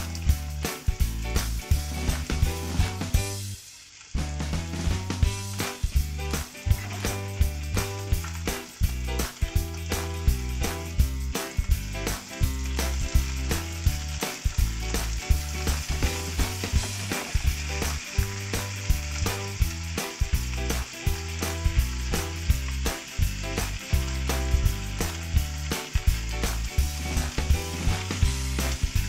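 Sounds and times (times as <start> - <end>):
chicken wings sizzling in a pan: 0.0 - 29.0.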